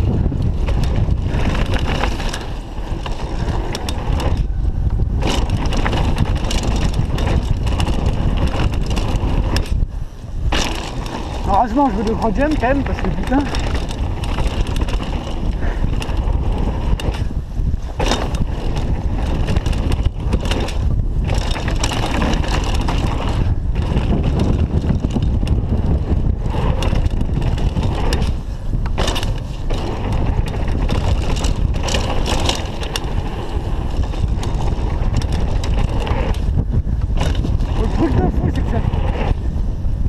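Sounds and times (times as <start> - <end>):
bike knocks and rattles: 0.0 - 40.0
tyres rolling on dirt and gravel: 0.0 - 40.0
wind on microphone: 0.0 - 40.0.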